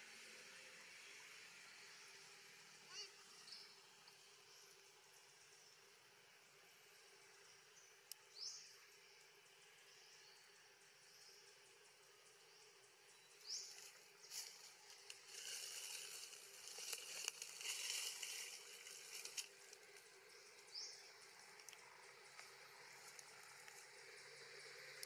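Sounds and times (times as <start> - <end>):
faint insect buzzing: 0.3 - 25.0.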